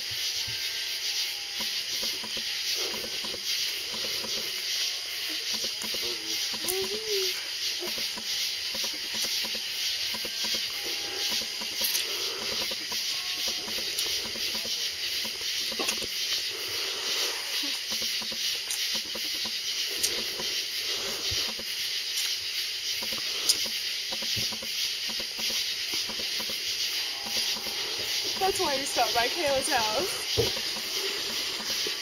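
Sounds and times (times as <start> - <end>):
high hiss: 0.0 - 32.0
faint ticks: 1.3 - 32.0.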